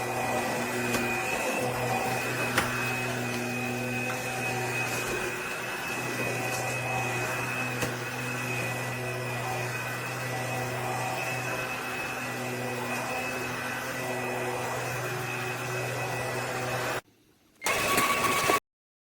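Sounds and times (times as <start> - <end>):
vacuum cleaner running: 0.0 - 17.0, 17.6 - 18.6.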